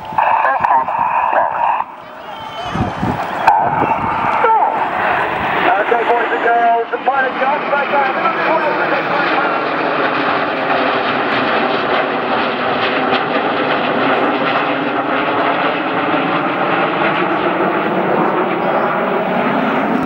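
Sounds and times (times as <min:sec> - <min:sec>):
jet engines with whine: 0:00.0 - 0:20.0.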